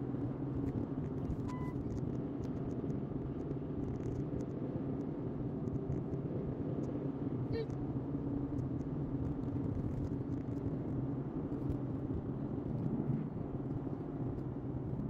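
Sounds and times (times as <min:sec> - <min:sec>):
car driving on highway: 0:00.0 - 0:15.0.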